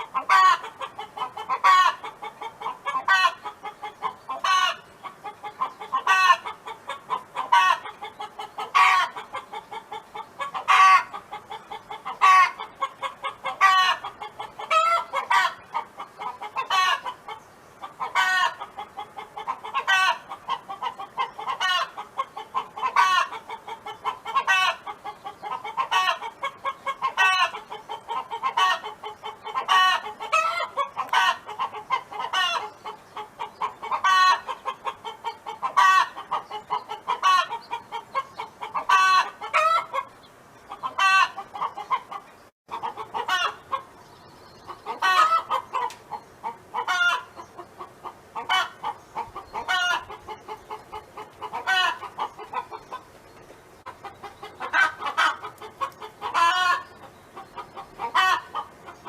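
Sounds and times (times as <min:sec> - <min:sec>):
hen clucking: 0:00.0 - 0:59.0.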